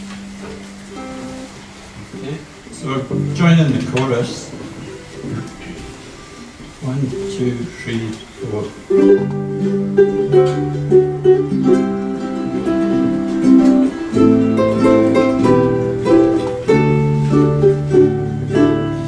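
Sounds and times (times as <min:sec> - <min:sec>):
ukuleles playing chords: 0:00.0 - 0:19.0.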